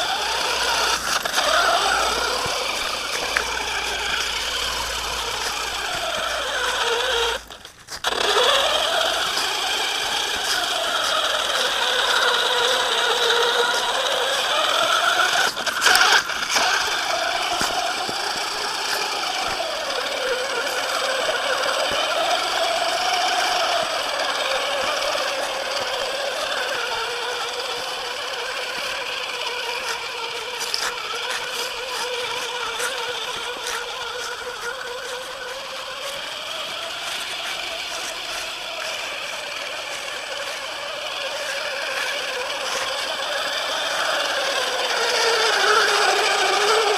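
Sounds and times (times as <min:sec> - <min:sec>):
toy truck motor whine: 0:00.0 - 0:46.9.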